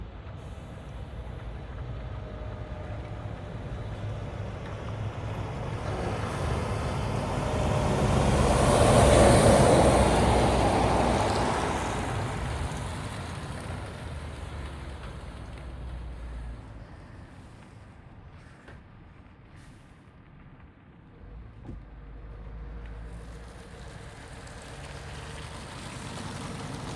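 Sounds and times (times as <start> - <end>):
road noise: 0.0 - 26.9
truck engine rumble: 0.0 - 26.9.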